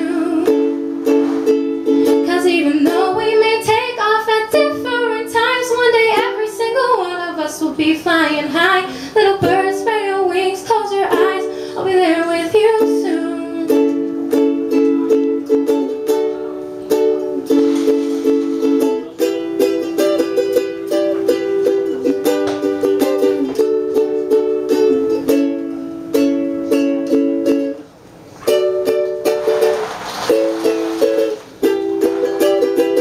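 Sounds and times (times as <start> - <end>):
acoustic string instrument strummed: 0.0 - 33.0.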